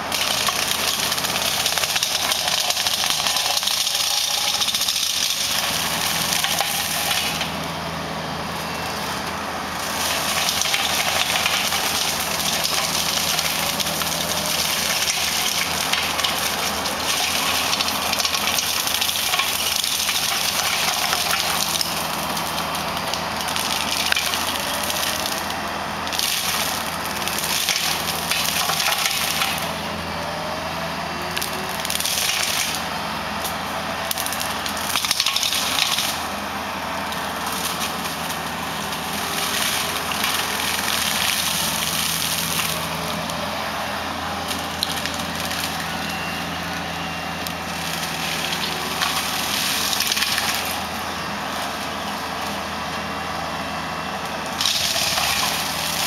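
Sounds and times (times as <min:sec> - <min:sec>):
diesel engine hum: 0:00.0 - 0:56.0
mower head shredding brush: 0:00.0 - 0:56.0.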